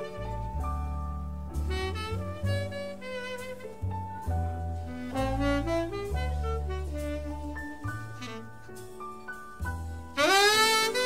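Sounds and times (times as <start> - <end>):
tenor saxophone melody: 0.0 - 9.3, 10.1 - 11.0
double bass: 0.0 - 11.0
piano: 0.0 - 11.0.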